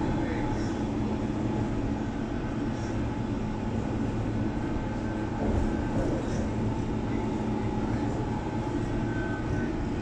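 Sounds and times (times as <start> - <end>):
faint hum: 0.0 - 10.0
train wheels rumbling on rails: 0.0 - 10.0.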